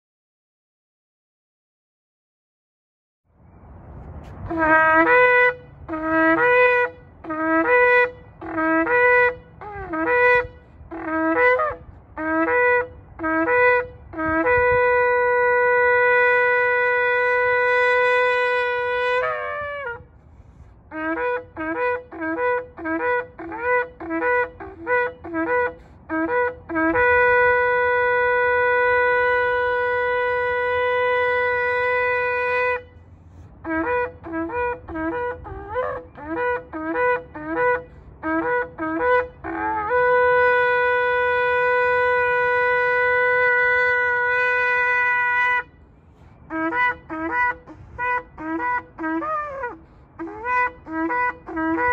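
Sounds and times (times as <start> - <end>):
shofar blasts: 4.3 - 51.9.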